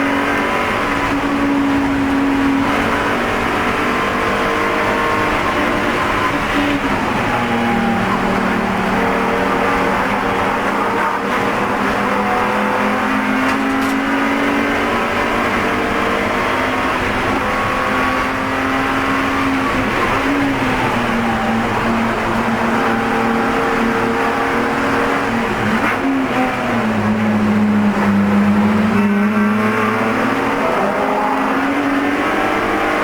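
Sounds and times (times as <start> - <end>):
race car engine under hard load: 0.0 - 33.0
wind and road noise: 0.0 - 33.0.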